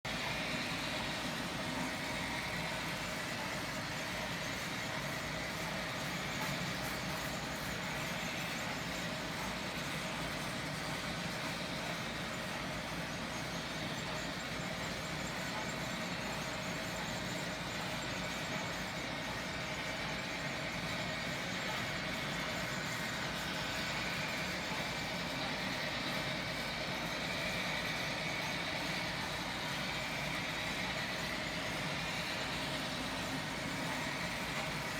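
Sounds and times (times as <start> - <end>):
train running: 0.1 - 34.9.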